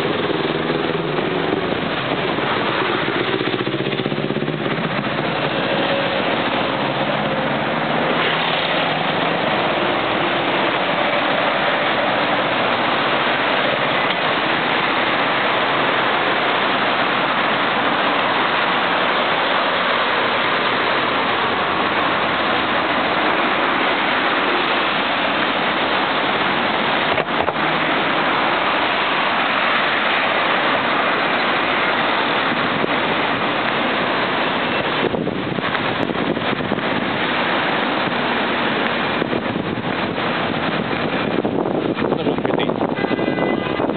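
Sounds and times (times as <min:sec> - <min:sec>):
heavy road traffic: 0:00.0 - 0:43.9.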